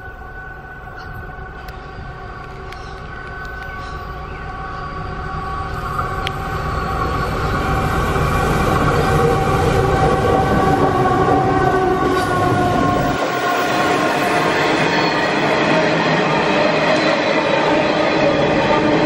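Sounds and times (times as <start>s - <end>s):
steady whine: 0.0s - 19.0s
locomotive engine rumble: 1.2s - 19.0s.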